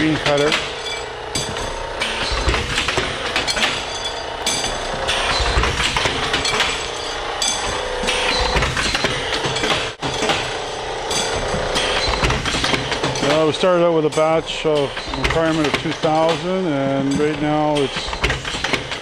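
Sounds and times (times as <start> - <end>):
machine clatter and hum: 0.0 - 19.0.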